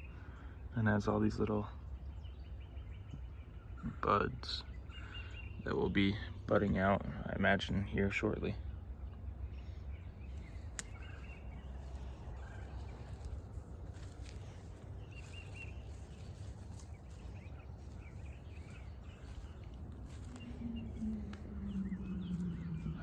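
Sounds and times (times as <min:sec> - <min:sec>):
low rumble: 0:00.0 - 0:23.0
small birds chirping: 0:00.0 - 0:23.0.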